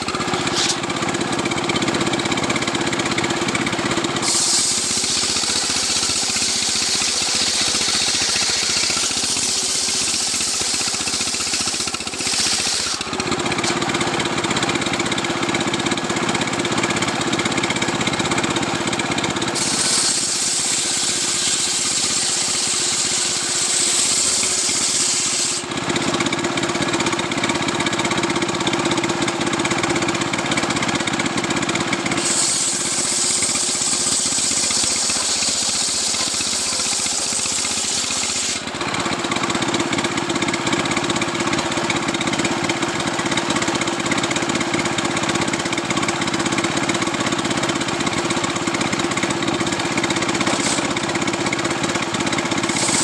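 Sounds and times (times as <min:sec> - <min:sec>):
chainsaw sawing wood: 0:00.0 - 0:53.0.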